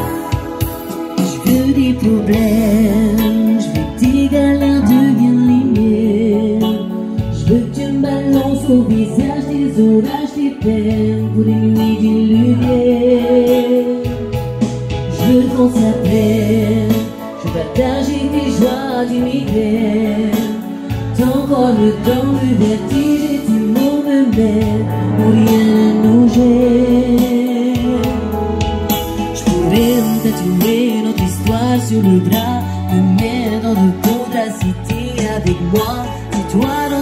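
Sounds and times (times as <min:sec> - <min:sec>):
woman singing with vibrato: 0:00.0 - 0:14.4, 0:15.1 - 0:28.6, 0:29.4 - 0:37.0
electronic keyboard with bass notes: 0:00.0 - 0:37.0.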